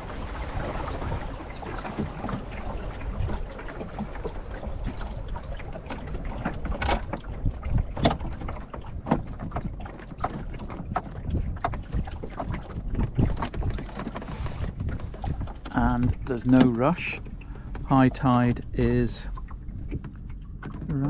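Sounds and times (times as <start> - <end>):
water slapping against a hull: 0.0 - 21.0
wind rumble on microphone: 0.0 - 21.0.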